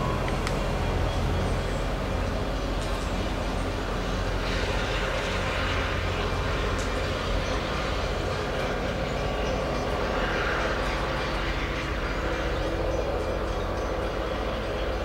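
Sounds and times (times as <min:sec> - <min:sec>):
diesel train engine drone: 0:00.0 - 0:15.0.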